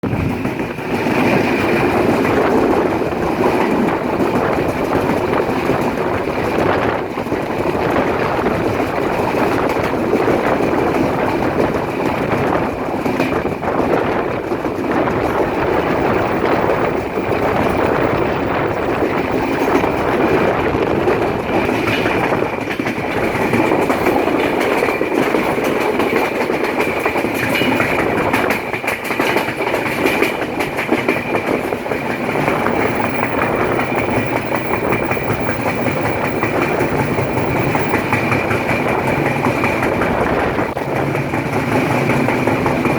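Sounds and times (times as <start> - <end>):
train wheels clattering on rails: 0.0 - 42.9.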